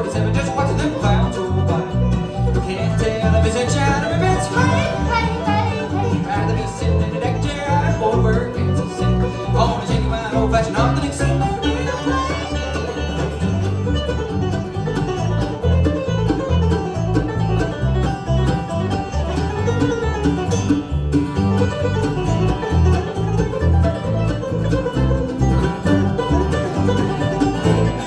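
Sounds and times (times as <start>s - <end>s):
banjo picking: 0.0s - 28.0s
bass line: 0.0s - 28.0s
bluegrass band playing: 0.0s - 28.0s
guitar picking: 0.0s - 28.0s.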